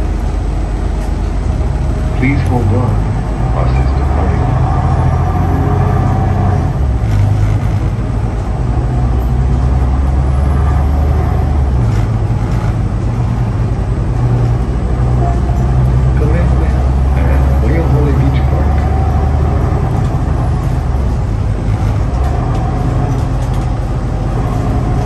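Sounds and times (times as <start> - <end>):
bus engine and road drone: 0.0 - 25.0.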